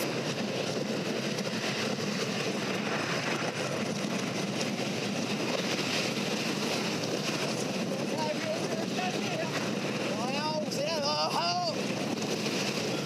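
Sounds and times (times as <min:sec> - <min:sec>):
roller coaster wheels on track: 0:00.0 - 0:13.0.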